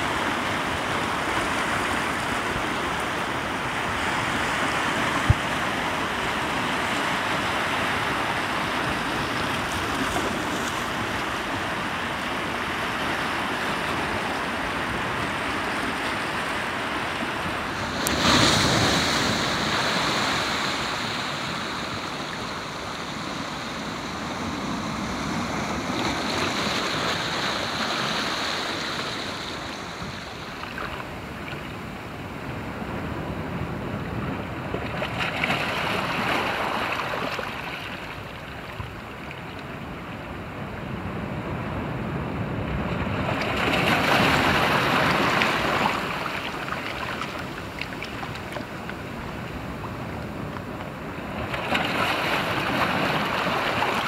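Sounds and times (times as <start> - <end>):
surf breaking on rocky shore: 0.0 - 31.4, 34.5 - 38.7, 42.7 - 54.0.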